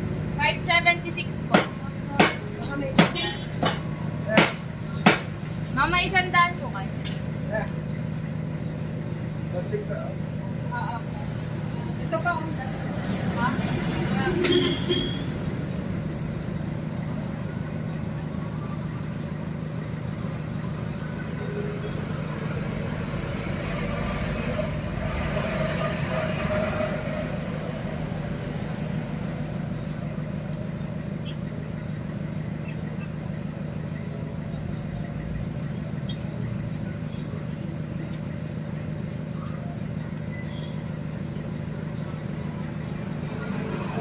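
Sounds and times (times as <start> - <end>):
vehicle engine hum: 0.0 - 44.0.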